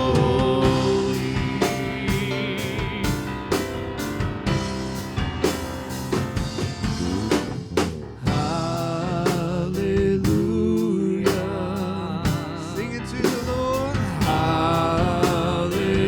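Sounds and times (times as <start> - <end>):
drum kit beat: 0.0 - 16.0
praise band playing: 0.0 - 16.0.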